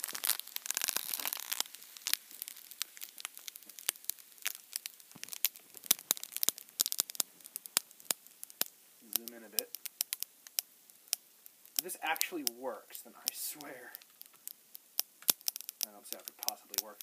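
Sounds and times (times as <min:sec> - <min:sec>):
foil packet crackling: 0:00.0 - 0:17.0.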